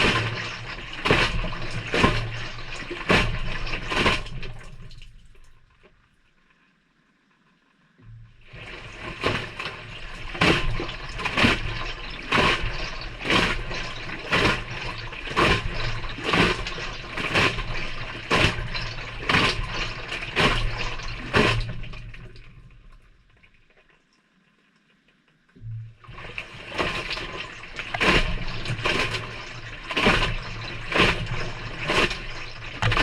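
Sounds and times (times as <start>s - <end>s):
washing machine motor hum: 0.0s - 5.3s, 8.1s - 22.7s, 25.6s - 33.0s
wet laundry tumbling and splashing: 0.0s - 5.5s, 8.4s - 22.8s, 25.9s - 33.0s.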